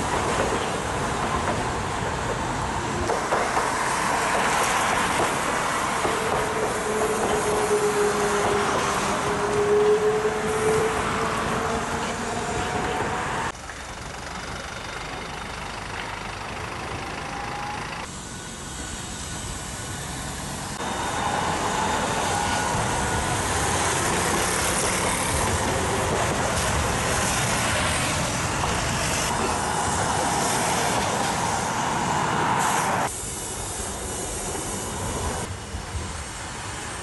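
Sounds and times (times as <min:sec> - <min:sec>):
bus driving past: 0:00.0 - 0:37.0.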